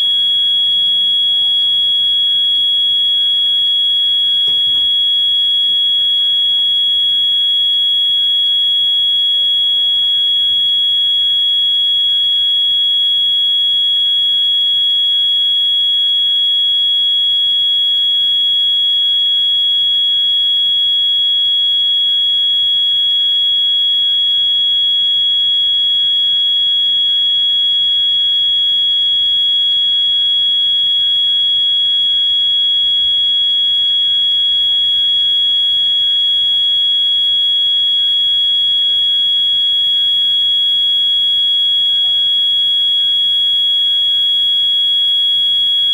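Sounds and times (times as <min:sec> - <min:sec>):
faint distant fire alarms: 0:00.0 - 0:45.9
fire alarm high-pitched tone: 0:00.0 - 0:45.9.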